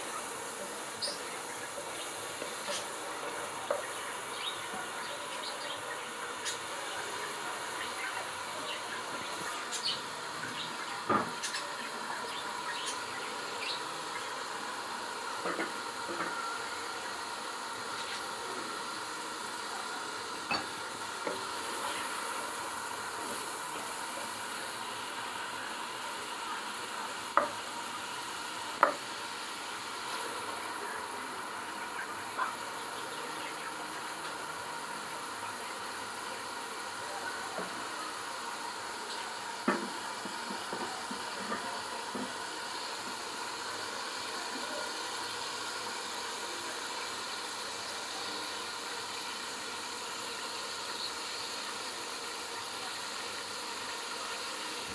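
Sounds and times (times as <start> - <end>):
onion and tomato sizzling: 0.0 - 54.9.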